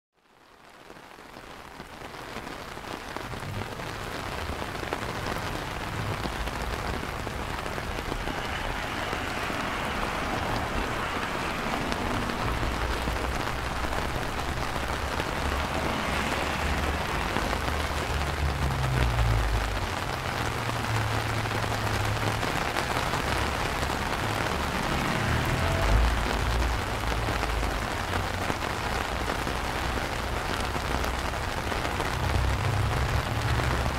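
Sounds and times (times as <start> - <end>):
rain falling on wet pavement: 0.2 - 33.9
low rumbles: 3.1 - 33.9.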